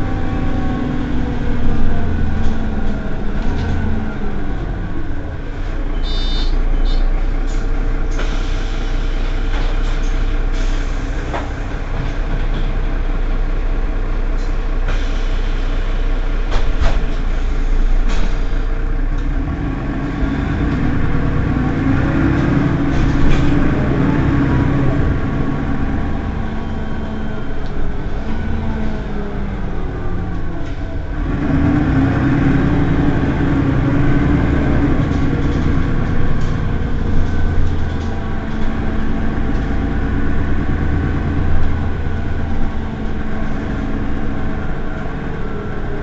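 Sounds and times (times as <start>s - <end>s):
bus engine idling: 0.0s - 46.0s.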